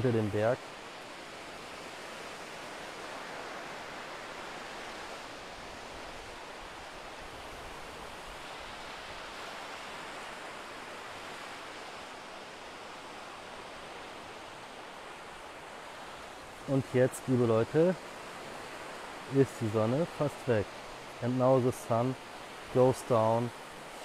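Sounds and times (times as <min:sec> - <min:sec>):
small waves breaking on beach: 0:00.0 - 0:24.0.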